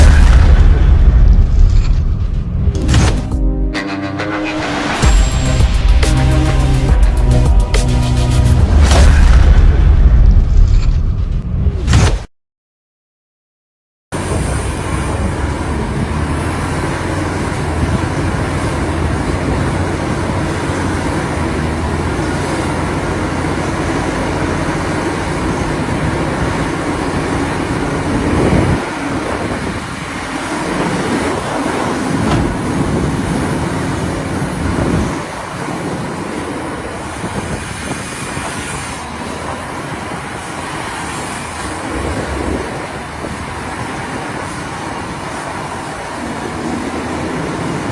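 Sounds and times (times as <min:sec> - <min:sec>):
heavy diesel machinery rumbling: 0:00.0 - 0:11.6, 0:14.2 - 0:47.9.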